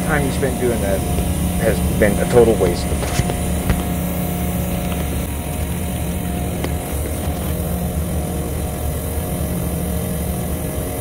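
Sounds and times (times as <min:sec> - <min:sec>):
faint steady whine: 0:00.0 - 0:11.0
low machinery hum: 0:00.0 - 0:11.0.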